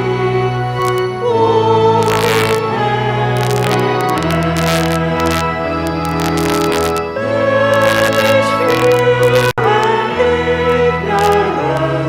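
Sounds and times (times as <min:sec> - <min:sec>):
voices singing a hymn: 0:00.0 - 0:12.0
held bass notes: 0:00.7 - 0:12.0.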